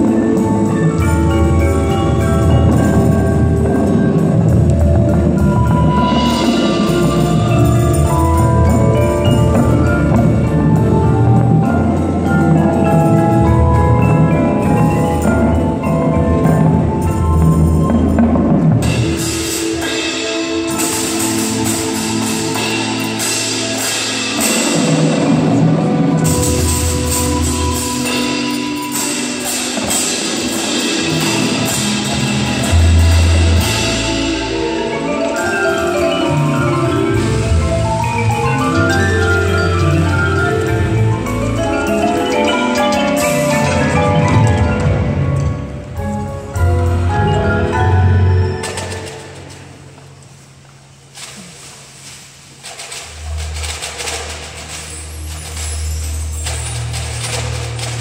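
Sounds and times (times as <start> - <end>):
marimbas and vibraphones: 0.0 - 58.0.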